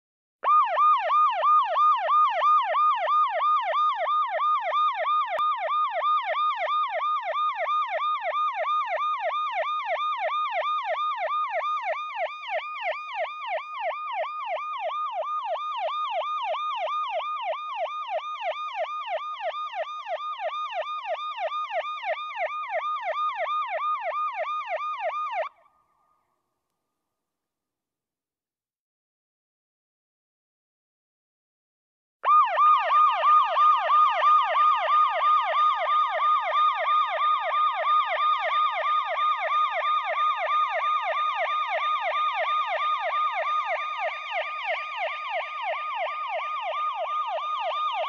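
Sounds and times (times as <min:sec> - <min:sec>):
electronic siren yelping: 0:00.4 - 0:25.6, 0:32.2 - 0:48.0.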